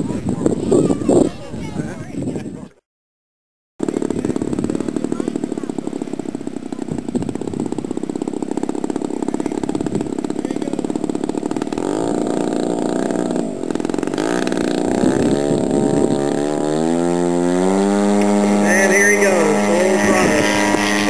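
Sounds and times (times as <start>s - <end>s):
model plane piston engine: 3.8s - 21.0s.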